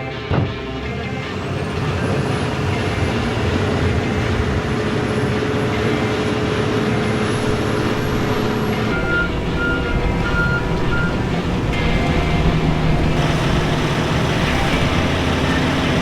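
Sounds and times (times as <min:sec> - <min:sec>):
snow-removal equipment roaring: 0:00.8 - 0:16.0.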